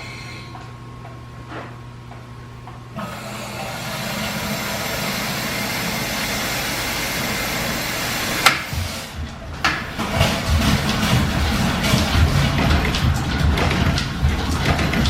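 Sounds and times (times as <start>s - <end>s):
low hum: 0.0s - 15.0s
steady mechanical running noise: 0.0s - 15.0s.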